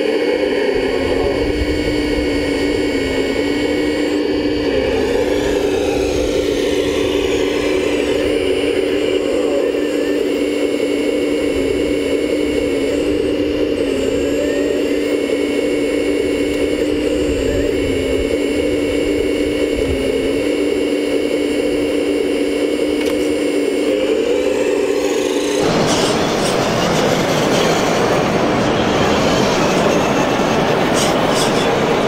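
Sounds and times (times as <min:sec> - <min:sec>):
hydraulic pump whining: 0:00.0 - 0:32.0.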